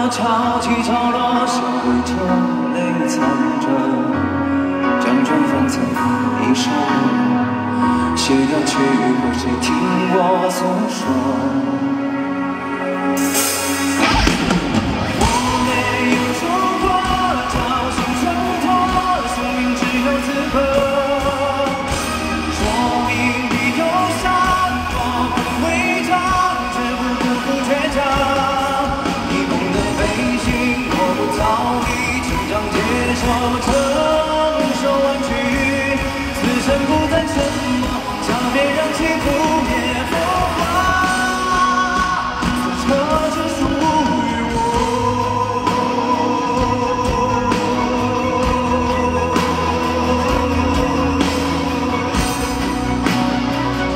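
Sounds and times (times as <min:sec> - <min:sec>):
band accompaniment: 0:00.0 - 0:53.9
man singing pop ballad: 0:00.0 - 0:53.9.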